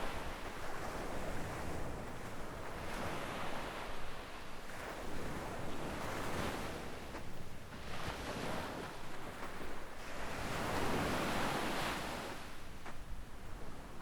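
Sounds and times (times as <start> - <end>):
sea waves washing on beach: 0.0 - 14.0.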